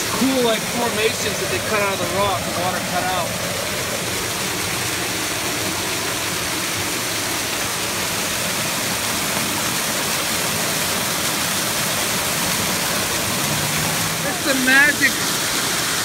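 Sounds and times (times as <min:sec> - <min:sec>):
waterfall splashing over rocks: 0:00.0 - 0:16.0.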